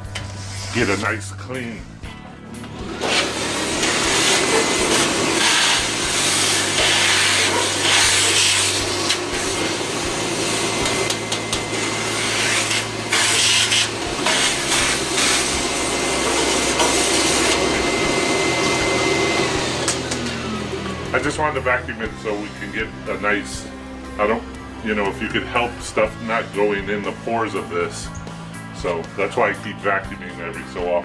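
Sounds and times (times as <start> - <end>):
vacuum cleaner running: 2.6 - 27.5.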